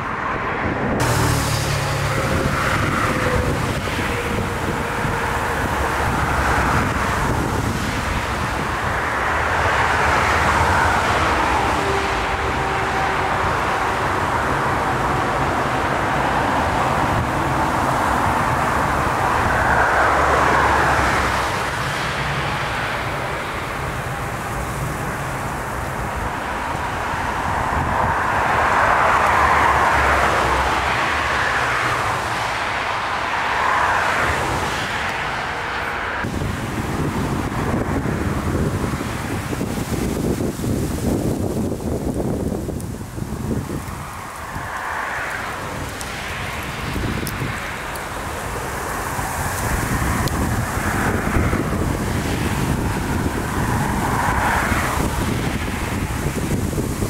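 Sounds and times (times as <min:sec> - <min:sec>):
jet engine noise: 0:00.0 - 0:57.0
wind buffeting microphone: 0:00.0 - 0:57.0.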